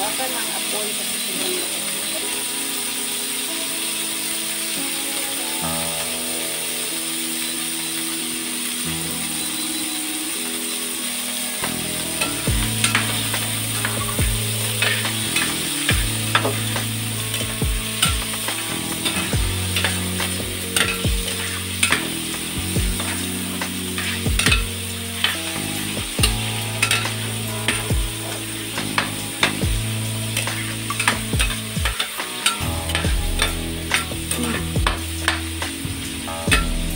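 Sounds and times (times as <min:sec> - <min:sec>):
noodles sizzling in pan: 0:00.0 - 0:36.9.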